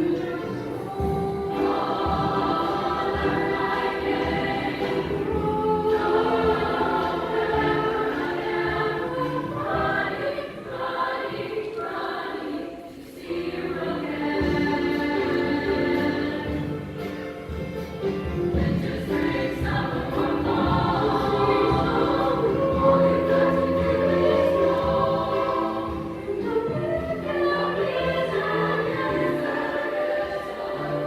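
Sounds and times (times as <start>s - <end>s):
choir singing in parts: 0.0s - 31.0s.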